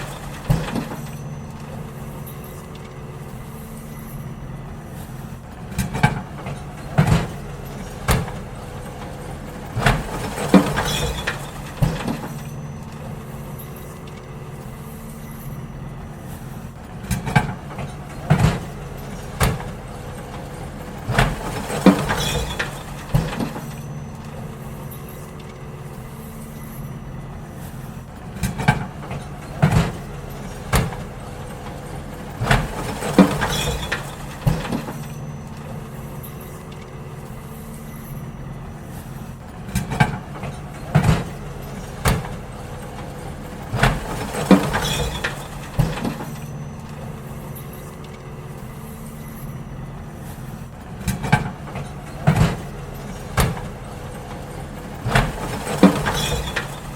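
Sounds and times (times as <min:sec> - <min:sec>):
bins clanking against metal: 0:00.0 - 0:56.9
garbage truck engine running: 0:00.0 - 0:56.9.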